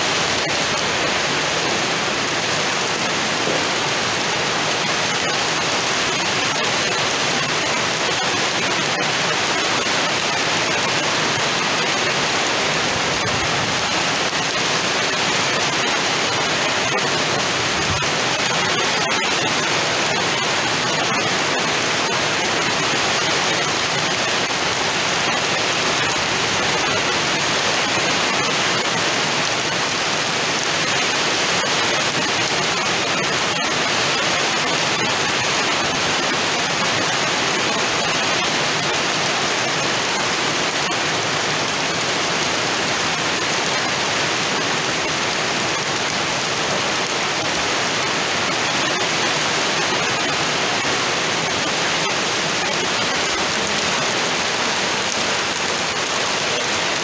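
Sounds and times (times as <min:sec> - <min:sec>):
heavy rain hissing: 0:00.0 - 0:57.0
water pouring off roof: 0:00.0 - 0:57.0.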